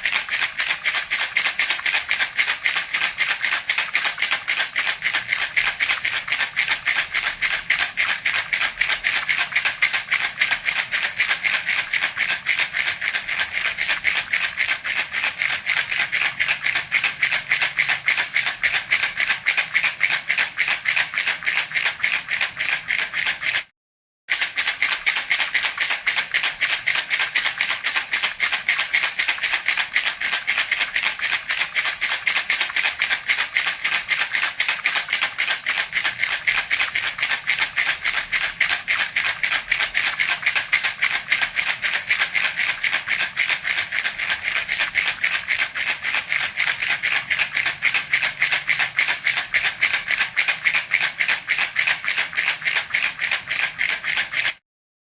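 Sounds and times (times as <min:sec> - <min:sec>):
baby rattle shaking: 0:00.0 - 0:23.7, 0:24.3 - 0:54.6.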